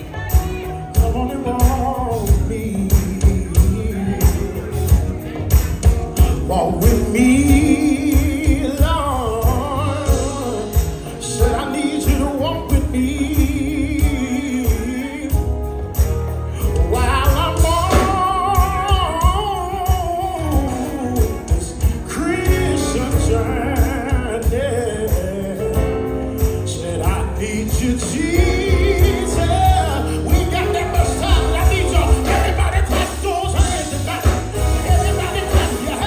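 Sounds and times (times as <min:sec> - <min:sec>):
bass: 0:00.0 - 0:36.0
percussion beat: 0:00.0 - 0:36.0
wordless singing: 0:06.1 - 0:36.0.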